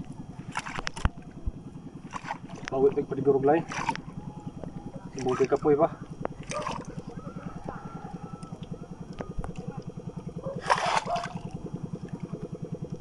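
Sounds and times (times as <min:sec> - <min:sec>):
small boat engine puttering: 0:00.0 - 0:13.0.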